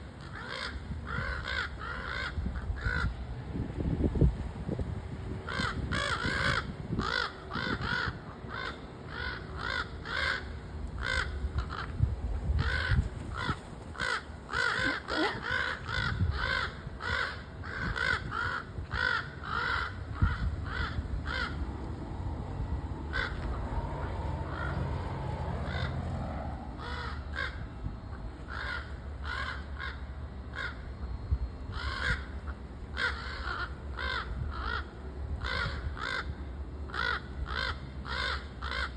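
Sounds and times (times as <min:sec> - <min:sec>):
crows cawing: 0:00.0 - 0:03.2, 0:05.4 - 0:21.8, 0:23.1 - 0:23.6, 0:24.5 - 0:24.9, 0:25.7 - 0:26.0, 0:26.8 - 0:27.7, 0:28.4 - 0:30.9, 0:31.7 - 0:38.9.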